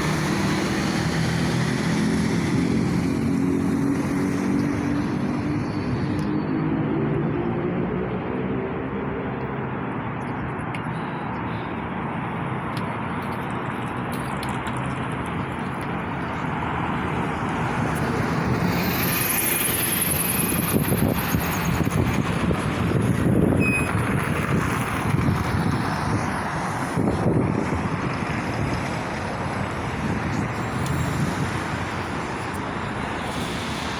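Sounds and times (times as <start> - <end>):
road traffic rushing: 0.0 - 33.9
trucks passing: 0.0 - 33.9.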